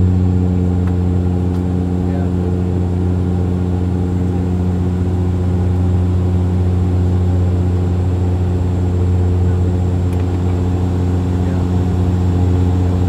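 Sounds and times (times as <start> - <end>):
aircraft engine drone in cabin: 0.0 - 13.0.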